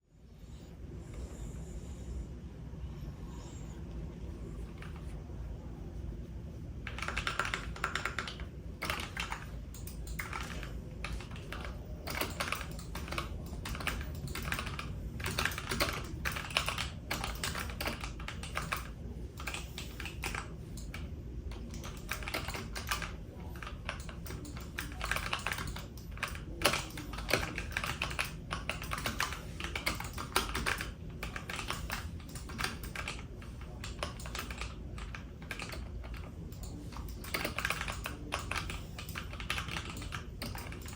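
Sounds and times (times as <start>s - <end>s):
steady low hum: 0.0s - 40.9s
typing on keyboard: 6.8s - 40.9s.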